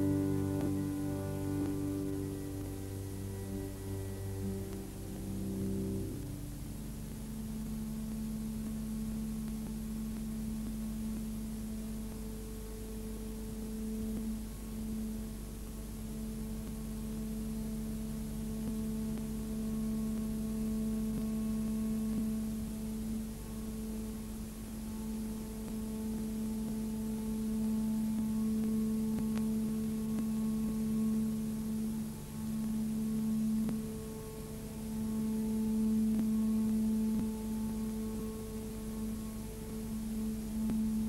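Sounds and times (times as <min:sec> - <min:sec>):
constant hiss: 0:00.0 - 0:41.0
low hum: 0:00.0 - 0:41.0
low soundtrack drone: 0:00.0 - 0:41.0.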